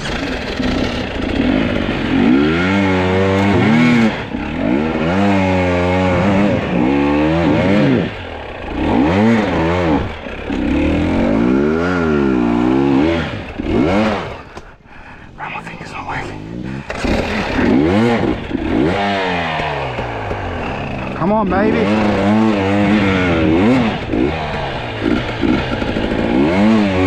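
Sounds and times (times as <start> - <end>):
dirt bike engine revving: 0.0 - 14.8, 16.4 - 27.0.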